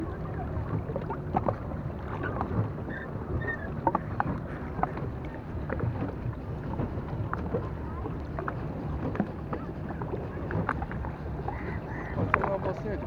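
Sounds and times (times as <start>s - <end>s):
boat engine rumble: 0.0s - 13.0s
water splashing against hull: 0.0s - 13.0s.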